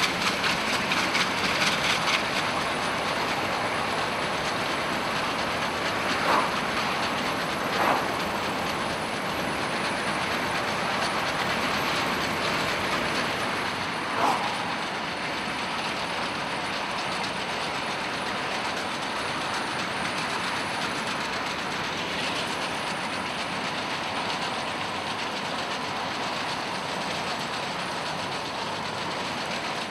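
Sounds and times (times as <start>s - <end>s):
rail clatter: 0.0s - 29.9s
train running noise: 0.0s - 29.9s.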